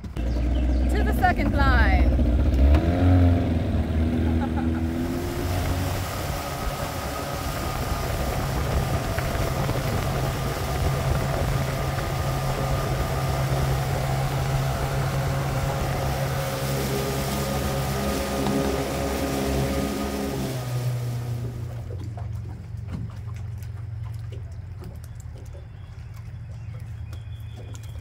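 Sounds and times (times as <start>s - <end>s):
wind and water rushing: 0.0s - 25.0s
outboard motor running: 0.0s - 28.0s.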